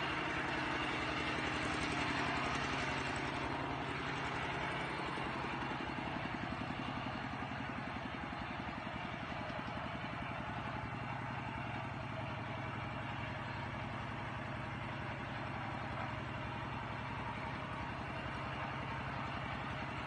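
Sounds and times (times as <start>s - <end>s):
engine running with low pulse: 0.0s - 20.0s.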